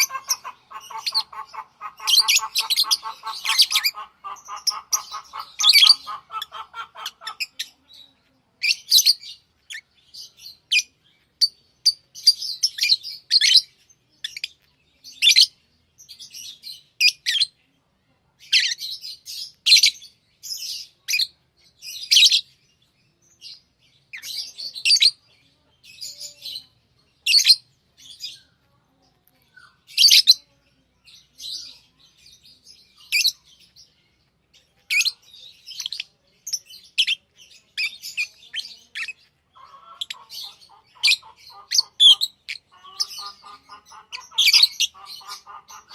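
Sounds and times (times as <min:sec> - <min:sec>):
lovebirds chirping: 0:00.0 - 0:45.9
low pulsing chatter: 0:00.0 - 0:45.9.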